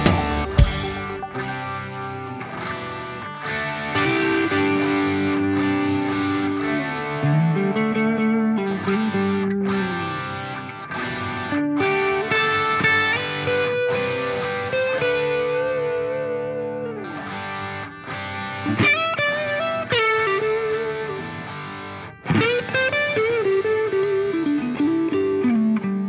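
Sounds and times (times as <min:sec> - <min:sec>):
distorted electric guitar melody: 0:00.0 - 0:26.0.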